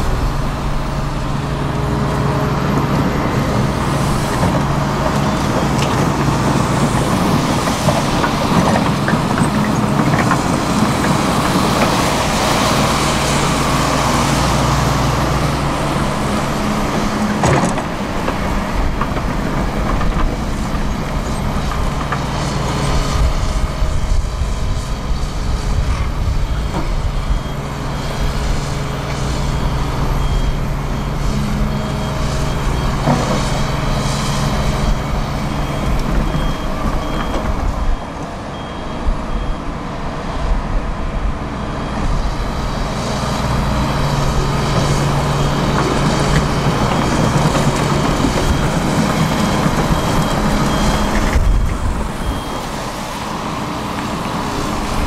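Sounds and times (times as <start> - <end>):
heavy diesel engines running: 0.0 - 55.0
reversing alarm beeping: 0.0 - 55.0.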